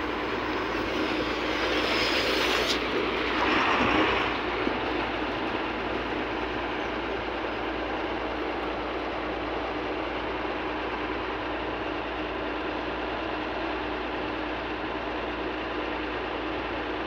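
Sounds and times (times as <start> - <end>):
heavy engine rumble: 0.0 - 17.0.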